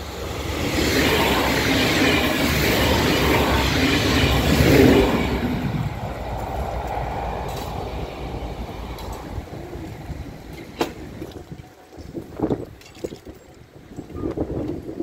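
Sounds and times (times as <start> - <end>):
diesel train passing: 0.0 - 12.8.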